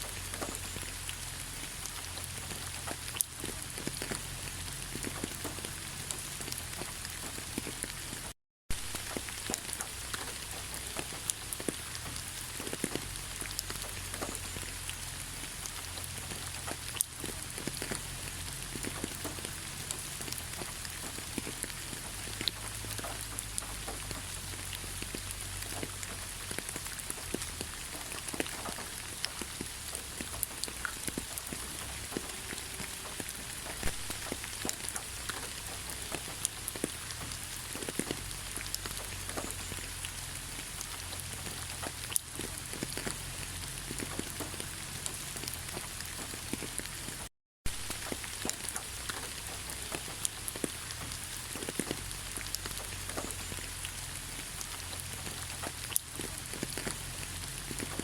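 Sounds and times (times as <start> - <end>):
rain hissing: 0.0 - 58.0
raindrops ticking: 0.0 - 58.0.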